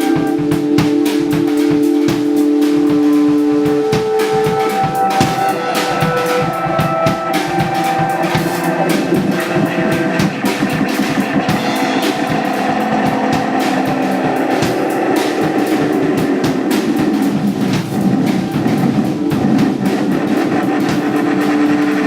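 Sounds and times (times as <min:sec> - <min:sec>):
drum kit beat: 0:00.0 - 0:22.0
live band music: 0:00.0 - 0:22.0.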